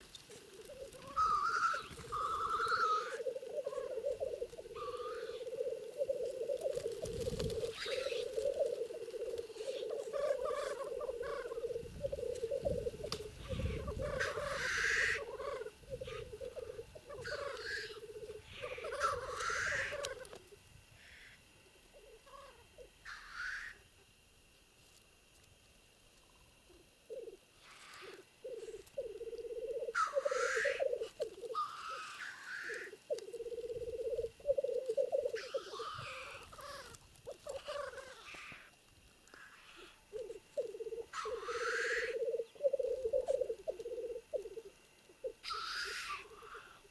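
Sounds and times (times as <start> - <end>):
grouse bubbling cooing song: 0.0 - 23.9, 26.6 - 46.9
grouse hissing calls: 0.0 - 24.3, 26.2 - 46.9.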